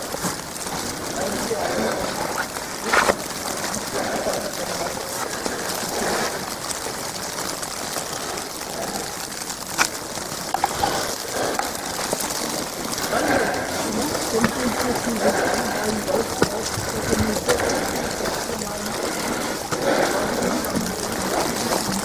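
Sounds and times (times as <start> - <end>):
wet snow hissing on an umbrella: 0.0 - 22.0.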